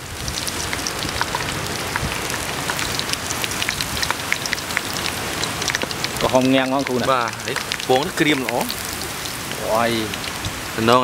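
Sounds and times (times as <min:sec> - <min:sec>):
meat deep-frying in hot oil: 0:00.0 - 0:11.0.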